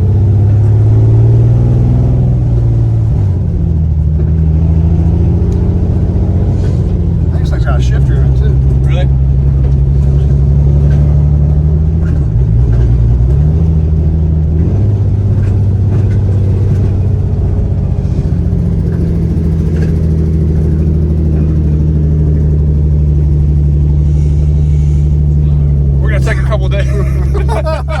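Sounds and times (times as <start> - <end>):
car engine low drone: 0.0 - 28.0.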